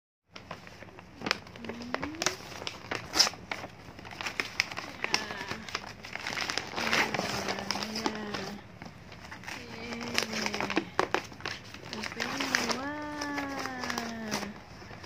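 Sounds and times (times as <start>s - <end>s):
wrapping paper crinkling and tearing: 0.4s - 15.0s.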